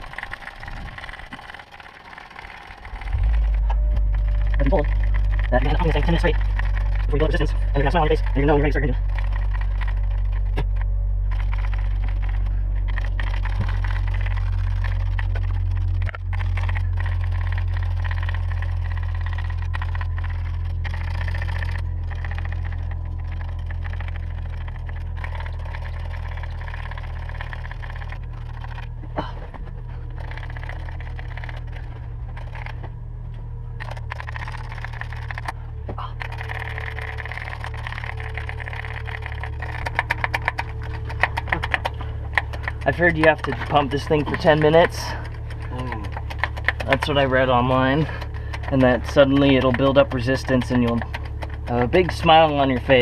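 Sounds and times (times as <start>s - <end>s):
faint clicks and scrapes: 0.0s - 53.0s
low engine-like hum: 0.0s - 53.0s.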